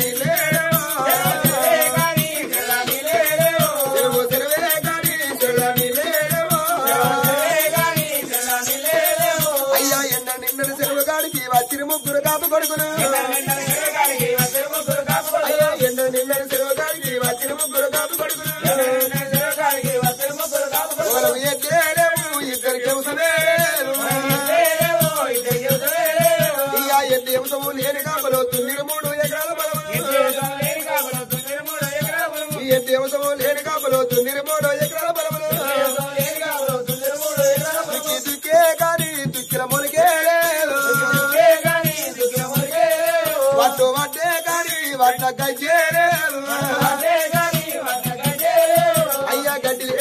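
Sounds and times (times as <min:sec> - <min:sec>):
drum beat: 0:00.0 - 0:50.0
jingling bells and cymbals: 0:00.0 - 0:50.0.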